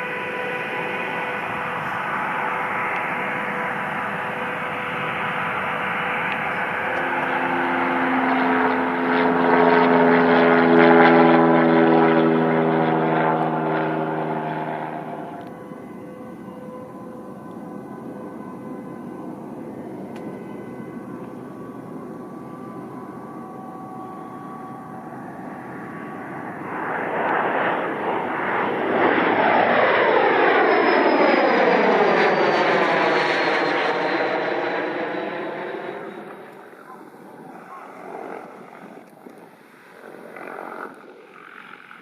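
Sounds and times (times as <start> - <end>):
jet airliner passing: 0.0 - 42.0.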